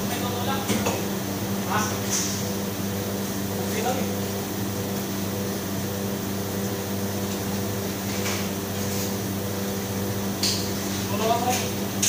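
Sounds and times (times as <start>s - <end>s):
refrigeration machine hum: 0.0s - 12.0s.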